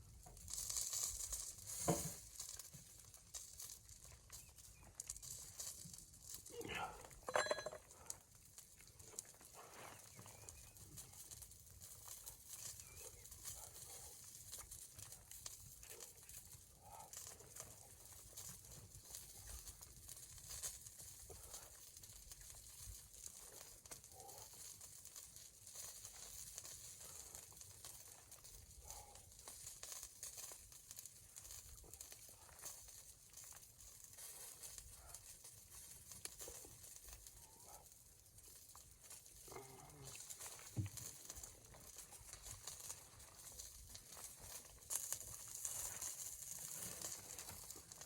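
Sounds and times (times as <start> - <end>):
soft rustles and ticks: 0.0 - 48.0.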